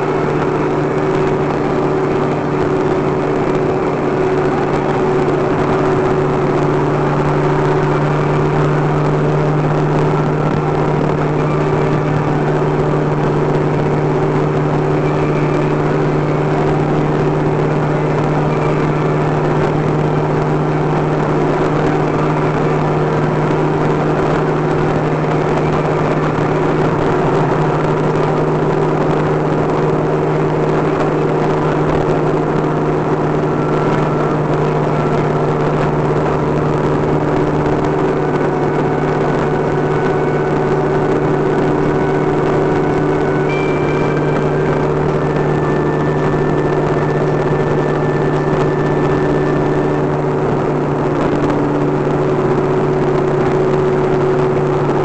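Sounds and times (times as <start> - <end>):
car engine drone: 0.0 - 55.0
wind noise: 0.0 - 55.0.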